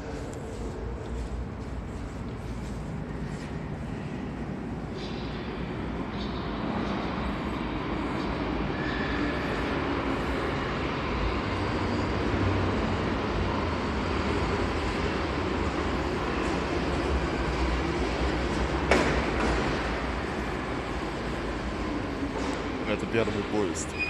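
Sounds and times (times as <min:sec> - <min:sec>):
train rumbling in tunnel: 0:00.0 - 0:24.0.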